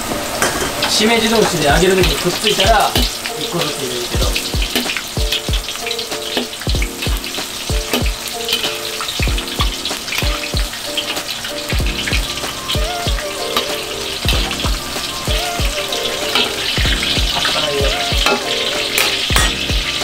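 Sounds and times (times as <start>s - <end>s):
mushrooms sizzling in hot oil: 0.0s - 20.0s
background music with thumping beat: 1.4s - 3.3s, 4.2s - 20.0s.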